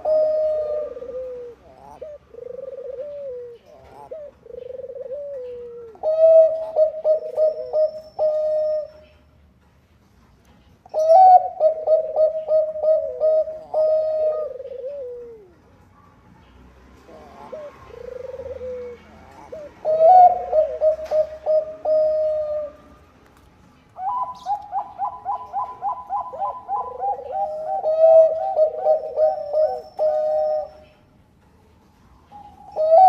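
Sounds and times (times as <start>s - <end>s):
dove cooing: 0.0s - 9.2s, 10.9s - 15.6s, 17.1s - 23.0s, 24.0s - 31.1s, 32.3s - 33.0s.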